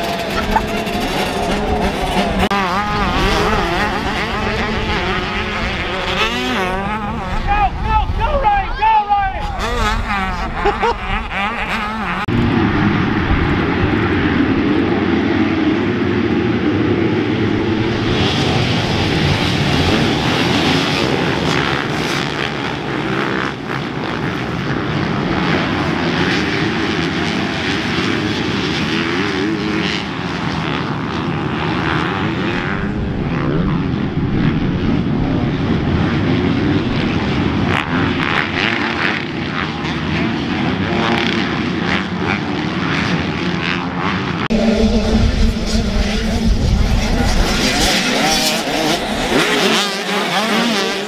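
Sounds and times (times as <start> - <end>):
motorbike passing: 0.0 - 8.6, 9.4 - 51.0
motocross bikes racing: 0.0 - 51.0.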